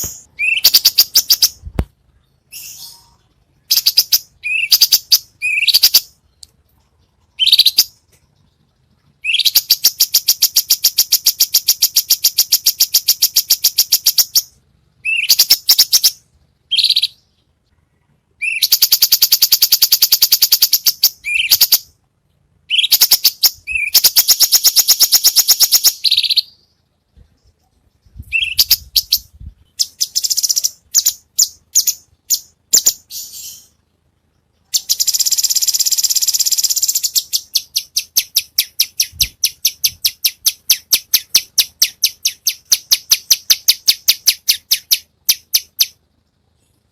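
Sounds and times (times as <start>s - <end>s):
songbird trilling: 0.0s - 1.7s, 2.5s - 6.4s, 7.3s - 8.0s, 9.2s - 17.4s, 18.4s - 21.9s, 22.7s - 26.7s, 28.0s - 33.8s, 34.7s - 46.0s
bird chirps: 0.0s - 22.0s, 22.6s - 46.0s.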